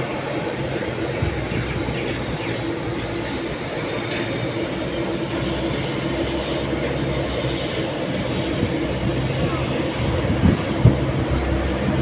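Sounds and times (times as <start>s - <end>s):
vehicle mechanical rumble: 0.0s - 12.0s.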